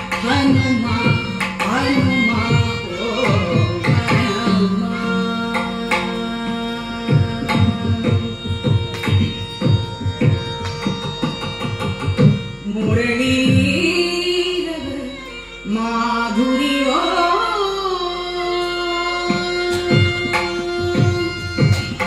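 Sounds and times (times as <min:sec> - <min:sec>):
woman singing: 0:00.0 - 0:09.2, 0:12.6 - 0:22.0
violin: 0:00.0 - 0:22.0.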